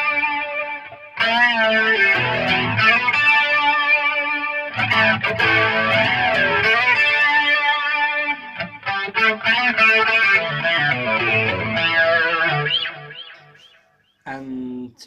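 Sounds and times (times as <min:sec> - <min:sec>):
overdriven electric guitar lead: 0:00.0 - 0:13.8.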